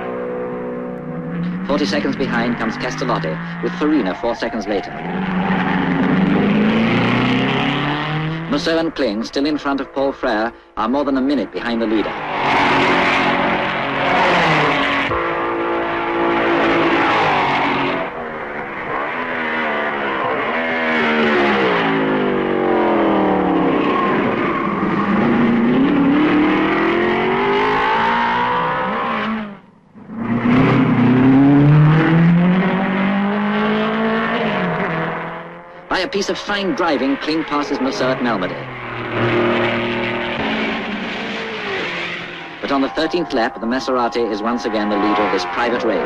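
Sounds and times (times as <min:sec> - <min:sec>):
racing car engines passing: 0:00.0 - 0:46.0.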